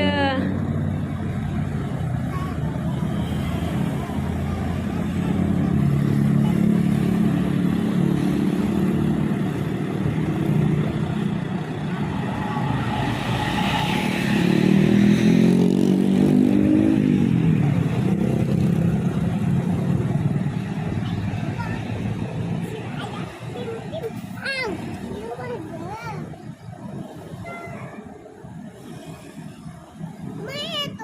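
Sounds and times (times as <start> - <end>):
road noise: 0.0 - 31.0
vehicle engines passing: 0.0 - 31.0.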